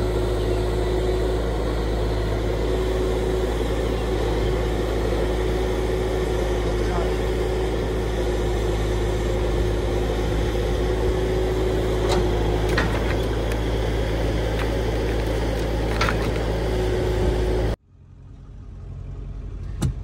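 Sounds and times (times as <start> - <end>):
steady whine: 0.0 - 17.8
diesel engine running: 0.0 - 20.0.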